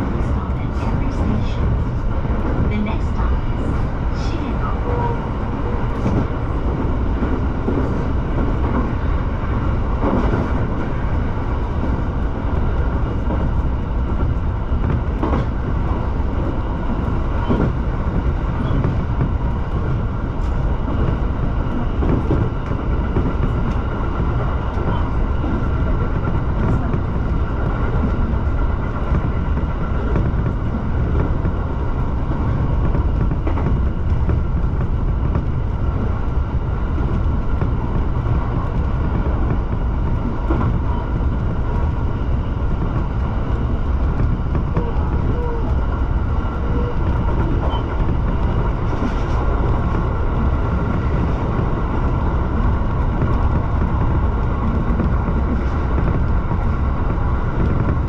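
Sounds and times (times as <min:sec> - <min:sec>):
electric train running rumble: 0:00.0 - 0:58.0.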